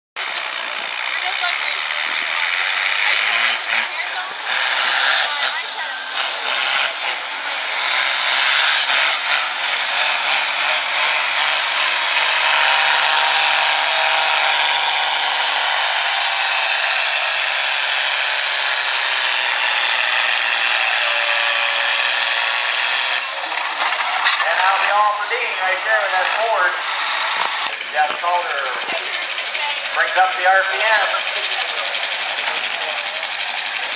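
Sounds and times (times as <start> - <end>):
tractor diesel engine droning: 0.2 - 33.9.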